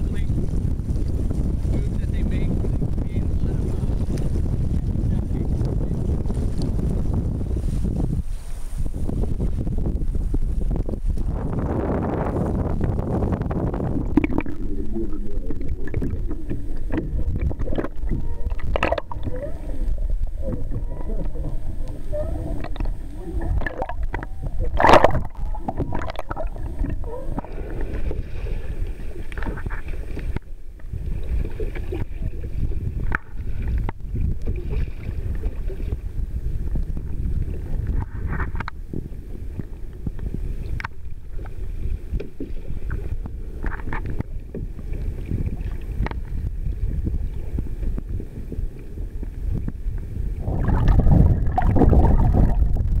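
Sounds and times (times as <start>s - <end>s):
water rushing and sloshing: 0.0s - 53.0s.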